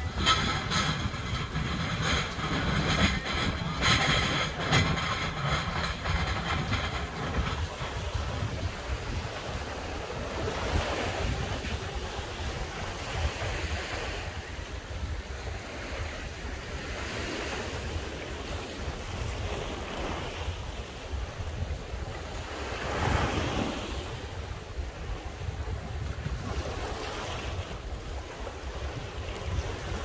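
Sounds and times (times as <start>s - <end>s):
sea waves washing on shore: 0.0s - 30.0s
wind rumbling on microphone: 0.0s - 30.0s.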